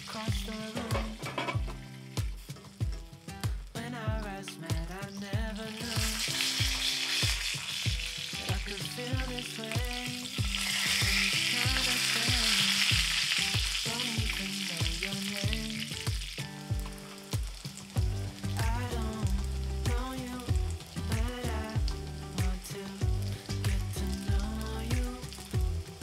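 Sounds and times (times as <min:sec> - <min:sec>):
background music with steady beat: 0:00.0 - 0:26.0
oil sizzling in a frying pan: 0:00.0 - 0:26.0.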